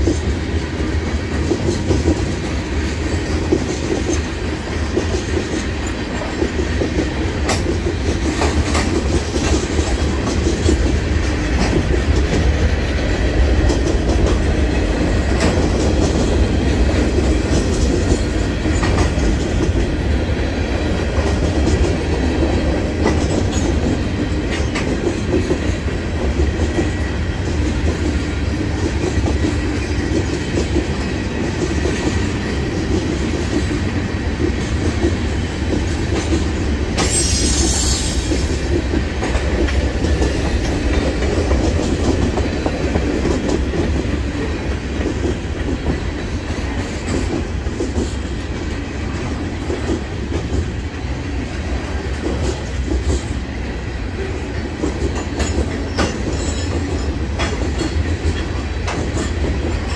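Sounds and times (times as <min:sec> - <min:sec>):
wheels clacking over rail joints: 0:00.0 - 0:53.5, 0:54.3 - 0:59.9
freight train wheels rumbling: 0:00.0 - 0:59.9.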